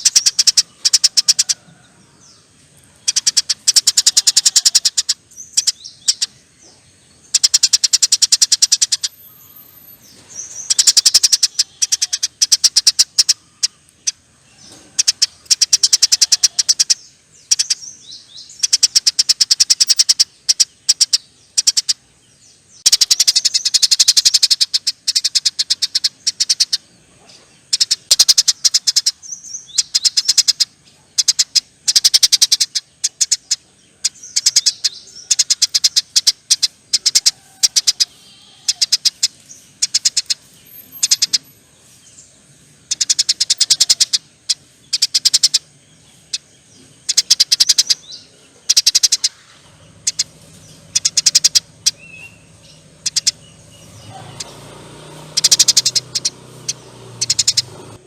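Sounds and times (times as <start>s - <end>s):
sparrow chattering calls: 0.0s - 2.4s, 3.0s - 22.1s, 22.7s - 58.0s.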